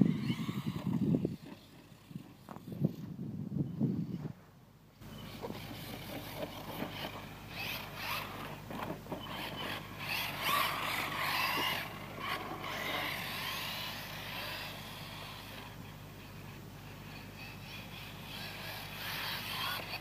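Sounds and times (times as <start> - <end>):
electric motor whining: 0.0 - 3.1, 5.0 - 20.0.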